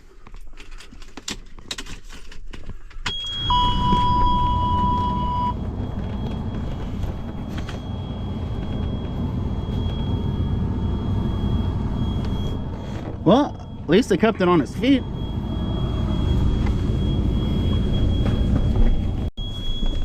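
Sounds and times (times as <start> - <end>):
high electronic warning tone: 3.1 - 20.0
low beep: 3.1 - 20.0
truck engine rumble: 3.2 - 20.0.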